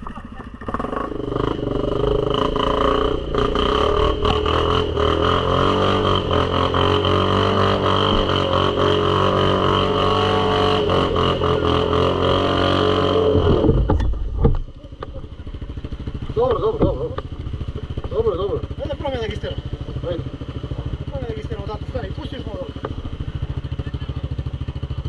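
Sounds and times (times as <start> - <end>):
atv engine at high revs: 0.0 - 25.0.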